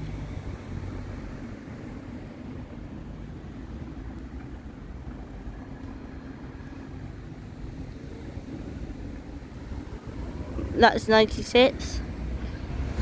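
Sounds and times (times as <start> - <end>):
road traffic: 0.0 - 13.0
vehicle engine rumble: 0.0 - 13.0.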